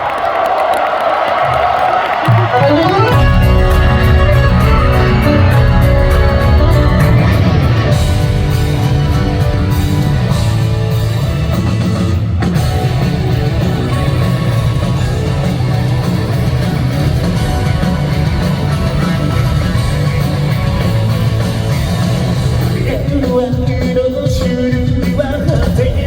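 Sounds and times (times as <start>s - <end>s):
drum kit: 1.4s - 26.0s
distorted electric guitar: 2.3s - 26.0s.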